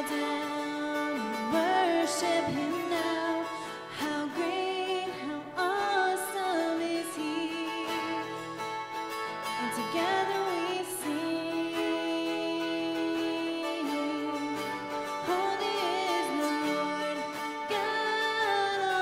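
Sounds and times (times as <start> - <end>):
woman singing worship song: 0.0 - 8.5, 9.5 - 19.0
acoustic guitar: 0.0 - 19.0.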